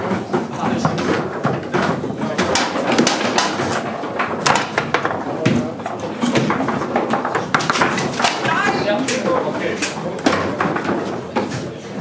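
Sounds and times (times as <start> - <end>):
foosball ball and rods clacking: 0.0 - 12.0
murmuring voices: 0.0 - 12.0.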